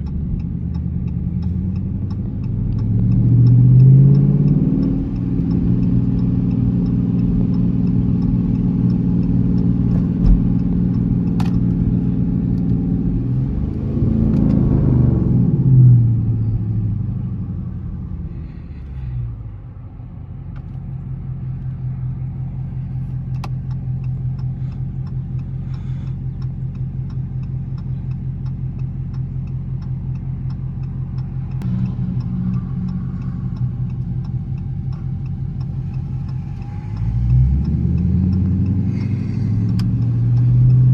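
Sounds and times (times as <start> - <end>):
car engine driving: 0.0 - 40.9.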